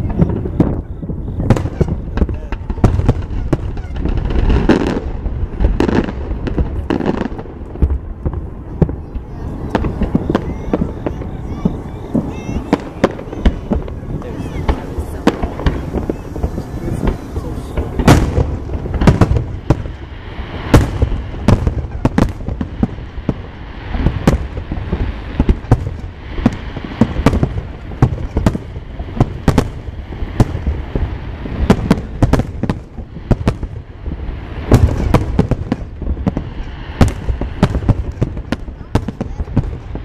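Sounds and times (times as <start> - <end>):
fireworks booming: 0.0 - 40.0.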